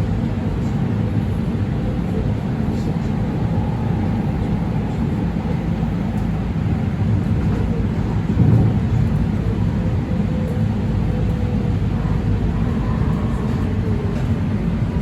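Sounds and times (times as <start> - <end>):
light rail train rumbling: 0.0 - 15.0.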